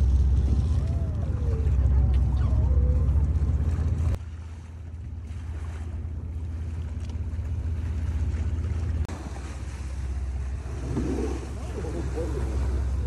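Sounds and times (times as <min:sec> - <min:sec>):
boat engine rumbling: 0:00.0 - 0:13.0
sea water: 0:00.0 - 0:13.0
wind: 0:00.0 - 0:13.0.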